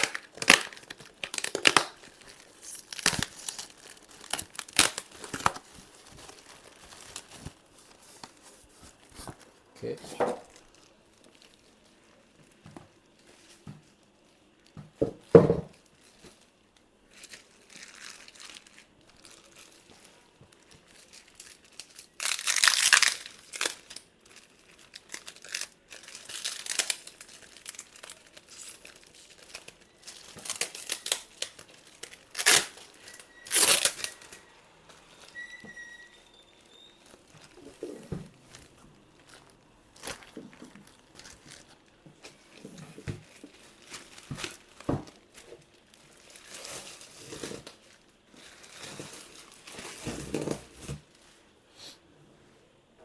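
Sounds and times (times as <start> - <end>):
plastic wrap crinkling and tearing: 0.0 - 51.5.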